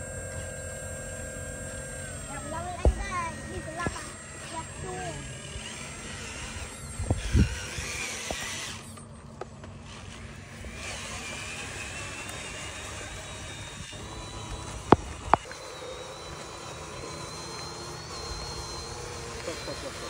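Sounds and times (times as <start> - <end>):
low hum: 0.0 - 20.0
small electric motors whining: 0.0 - 20.0.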